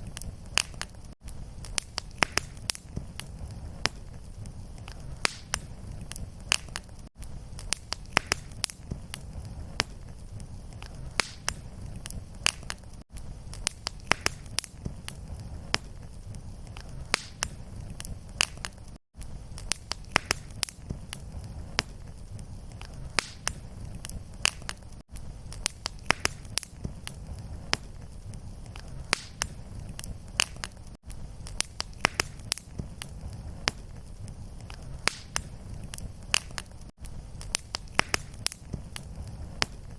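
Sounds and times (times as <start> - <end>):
fire popping and snapping: 0.0 - 39.9
low rumble of flame: 0.0 - 39.9.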